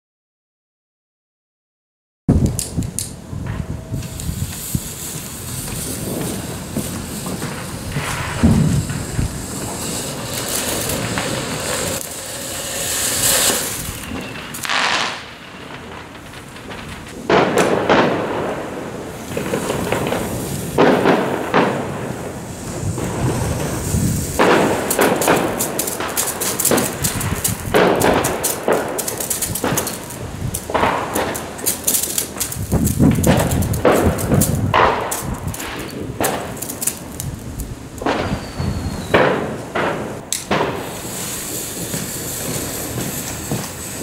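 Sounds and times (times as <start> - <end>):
firework crackling: 2.3 - 44.0
firework fountain hissing: 2.3 - 44.0.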